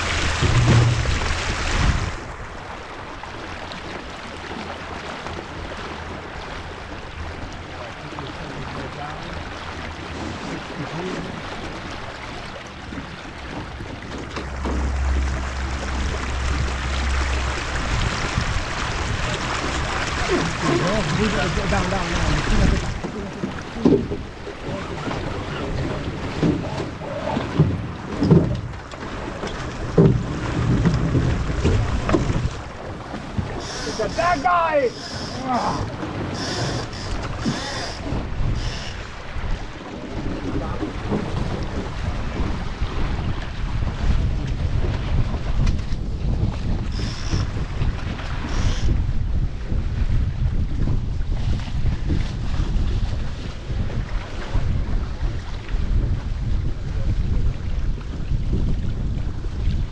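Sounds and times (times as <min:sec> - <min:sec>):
water rushing along hull: 0:00.0 - 0:59.9
wind rumble on microphone: 0:00.0 - 0:59.9.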